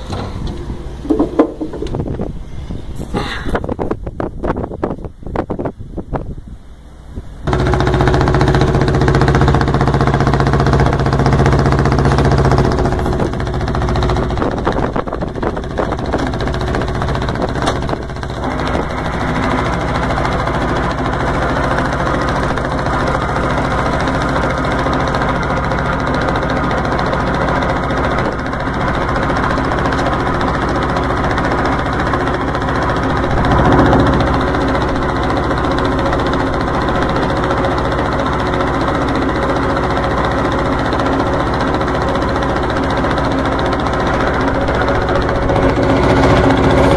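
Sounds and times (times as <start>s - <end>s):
diesel engine starting and idling: 0.0s - 3.8s, 6.6s - 46.9s.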